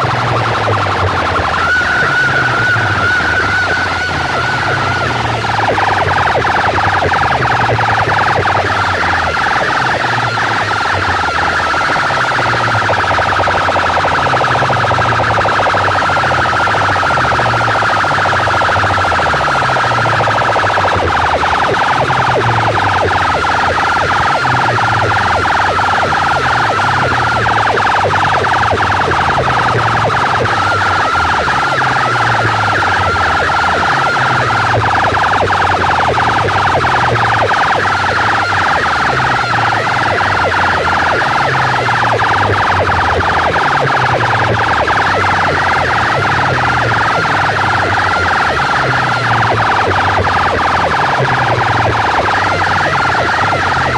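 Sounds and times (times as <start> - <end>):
fast ticking beat: 0.0 - 53.9
heavy bass line: 0.0 - 53.9
wavering siren-like tone: 0.0 - 53.9.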